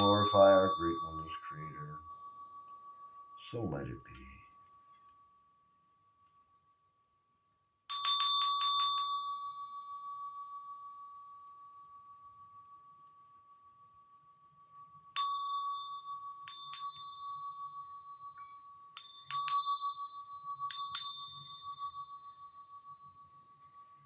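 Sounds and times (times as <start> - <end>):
small metal bell struck: 0.0 - 6.7, 7.9 - 13.4, 14.8 - 24.0.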